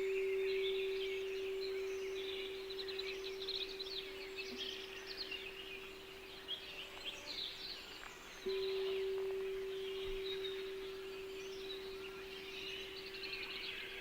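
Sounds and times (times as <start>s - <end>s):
steady pure tone: 0.0s - 6.7s, 8.4s - 14.0s
songbirds chirping: 0.0s - 14.0s.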